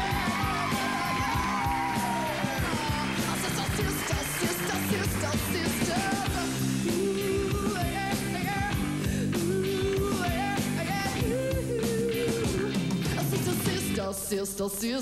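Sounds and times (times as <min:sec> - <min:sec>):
steady bass notes: 0:00.0 - 0:14.0
drums: 0:00.0 - 0:14.6.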